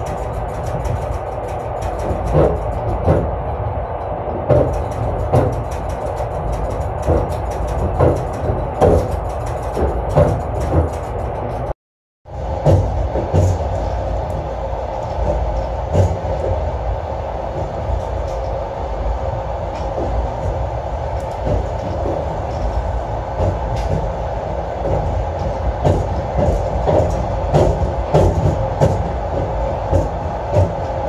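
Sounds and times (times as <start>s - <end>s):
sharp knocks of train wheels: 0.0s - 11.7s, 12.4s - 16.9s, 19.6s - 31.0s
train rumble inside carriage: 0.0s - 31.0s.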